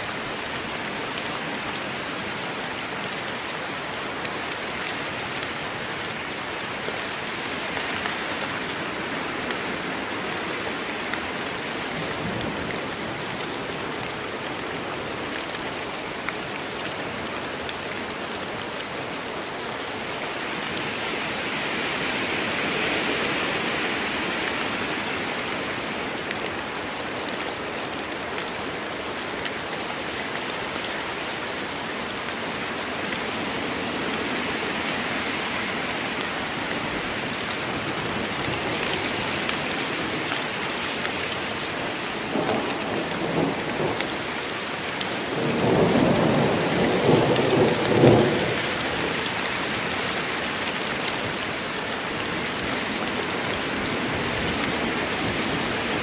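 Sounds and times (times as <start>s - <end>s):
rain falling in a forest: 0.0s - 56.0s.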